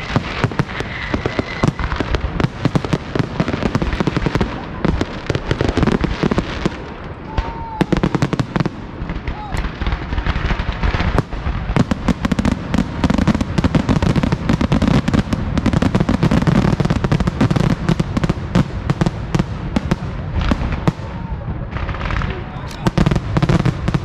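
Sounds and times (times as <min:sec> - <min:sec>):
fireworks bursts and crackling: 0:00.0 - 0:24.0.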